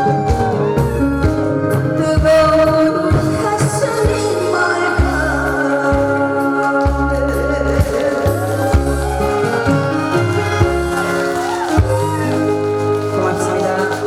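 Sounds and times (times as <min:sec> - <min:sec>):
backing track with bass beat: 0:00.0 - 0:14.0
person singing: 0:00.0 - 0:14.0.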